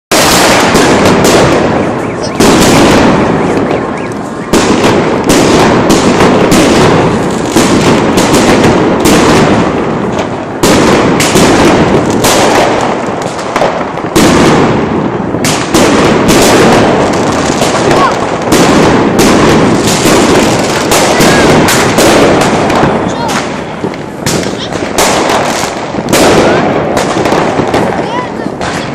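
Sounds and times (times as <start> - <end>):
fireworks bangs and crackles: 0.1 - 28.9.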